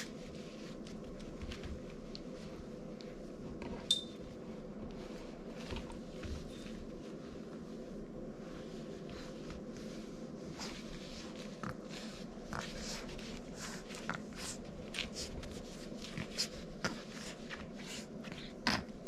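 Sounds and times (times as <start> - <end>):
puppies scratching on bedding: 0.0 - 19.0.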